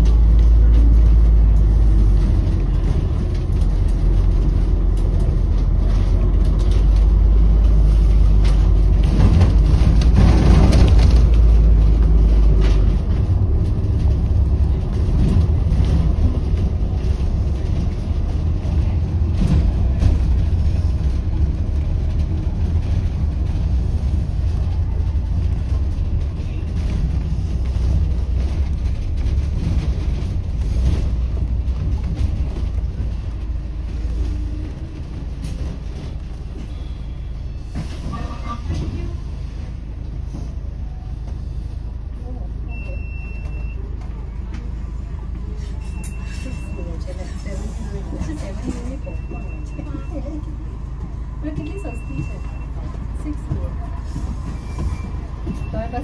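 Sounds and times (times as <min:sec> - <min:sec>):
bus rumbling: 0:00.0 - 0:56.0
city traffic: 0:00.0 - 0:56.0.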